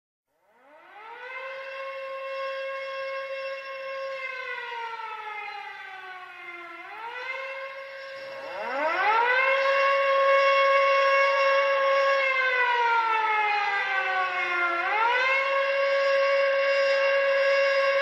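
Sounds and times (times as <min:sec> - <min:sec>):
air-raid siren wailing: 0:00.4 - 0:18.0.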